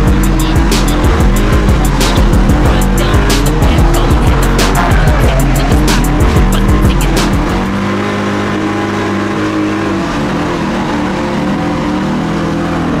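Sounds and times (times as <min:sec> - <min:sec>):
car engine running in cabin: 0:00.0 - 0:13.0.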